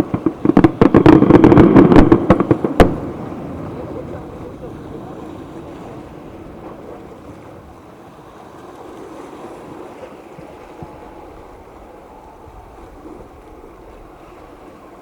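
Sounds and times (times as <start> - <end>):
sea surf rushing: 0.0 - 15.0
wind buffeting microphone: 0.0 - 15.0.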